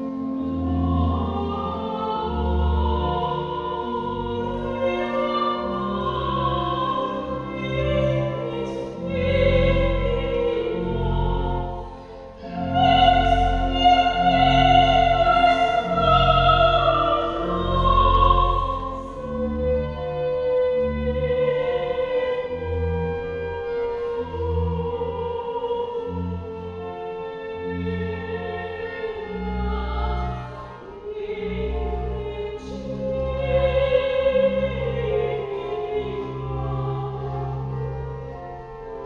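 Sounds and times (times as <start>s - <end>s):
pipe organ chords: 0.0s - 39.0s.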